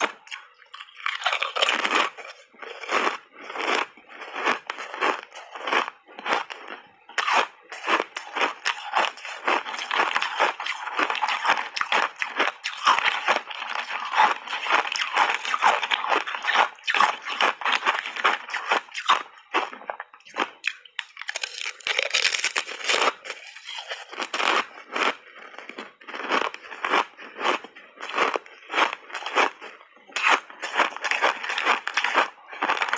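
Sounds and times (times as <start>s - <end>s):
person crunching ice: 0.0s - 32.9s.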